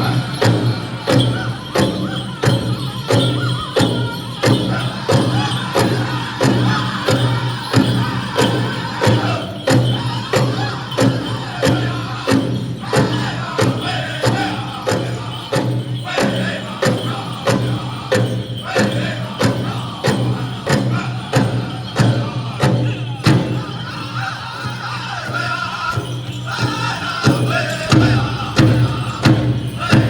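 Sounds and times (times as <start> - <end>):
large drum beating: 0.0 - 23.9, 25.9 - 30.0
people singing: 0.0 - 30.0.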